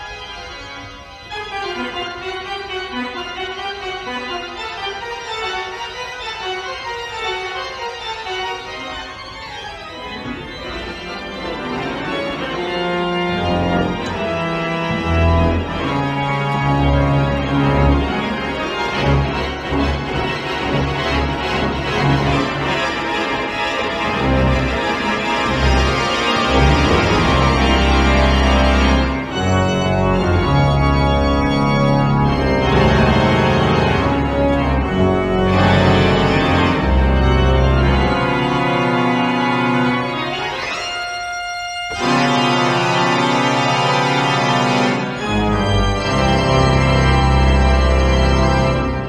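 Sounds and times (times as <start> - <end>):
pipe organ chords: 0.0 - 49.0.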